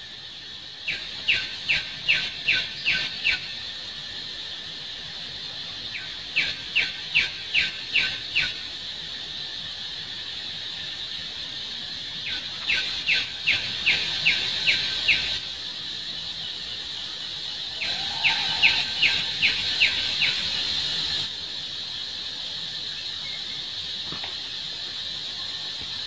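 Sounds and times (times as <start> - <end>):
high insect buzz: 0.0 - 26.0.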